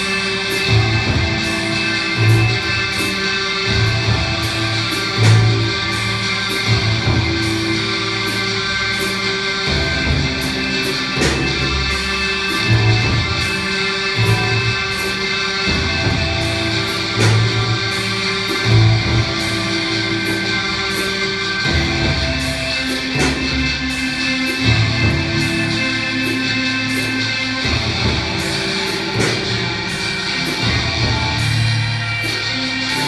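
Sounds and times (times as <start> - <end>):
bass notes: 0.0 - 33.0
percussion strikes: 0.0 - 33.0.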